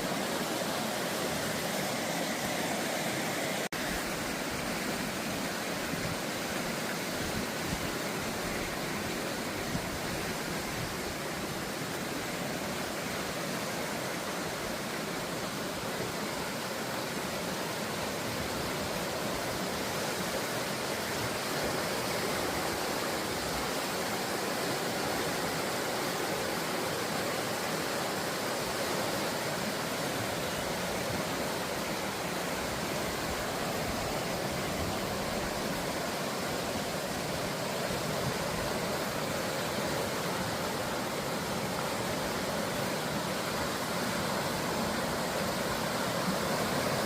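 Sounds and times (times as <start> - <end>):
rushing water of a stream: 0.0 - 47.0.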